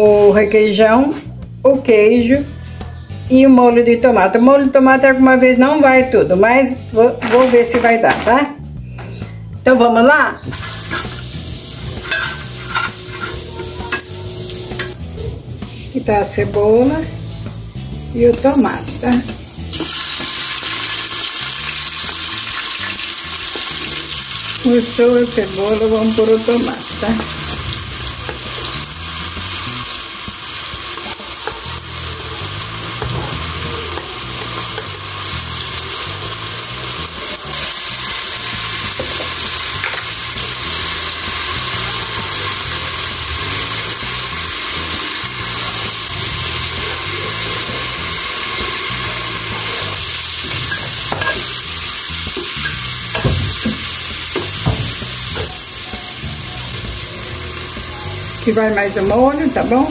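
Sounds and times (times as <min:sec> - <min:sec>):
onion and tomato sizzling: 0:00.0 - 0:01.4, 0:06.6 - 0:08.7, 0:10.3 - 0:59.9.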